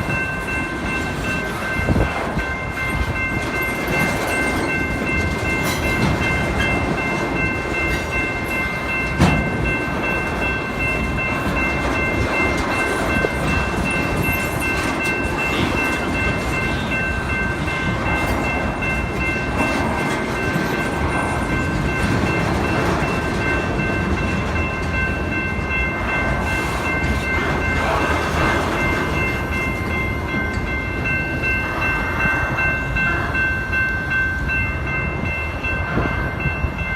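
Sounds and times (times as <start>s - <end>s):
freight train cars rumbling: 0.0s - 36.9s.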